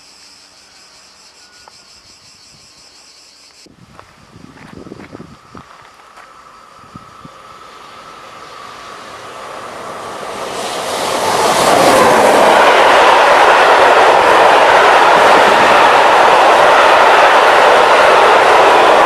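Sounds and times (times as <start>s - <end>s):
freight train passing: 0.0s - 3.0s, 3.8s - 19.0s
wheels rushing on rails: 3.6s - 19.0s.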